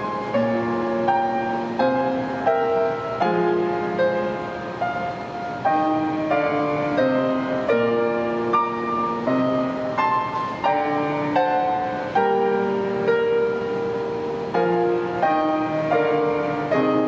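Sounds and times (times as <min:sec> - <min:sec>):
grand piano playing slow piece: 0:00.0 - 0:17.0.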